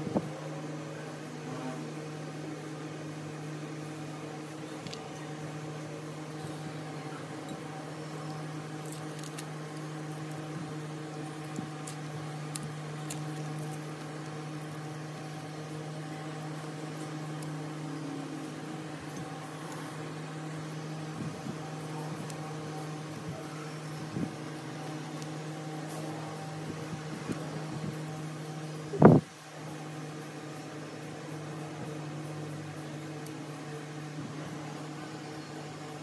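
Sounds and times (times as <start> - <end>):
machine hum: 0.0 - 36.0.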